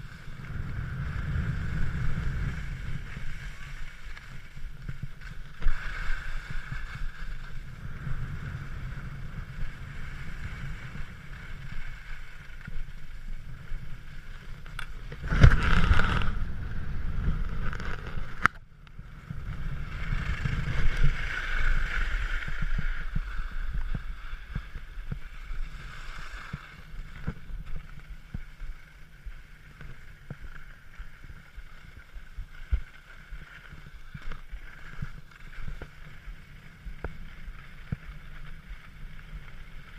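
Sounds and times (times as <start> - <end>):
skis scraping over snow: 0.0 - 39.9
wind rumble on microphone: 0.0 - 39.9.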